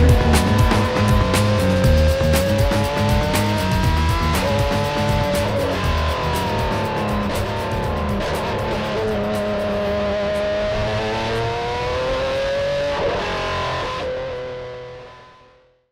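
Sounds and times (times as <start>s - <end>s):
electric guitar music: 0.0s - 15.5s
race car engine revving: 0.0s - 15.5s.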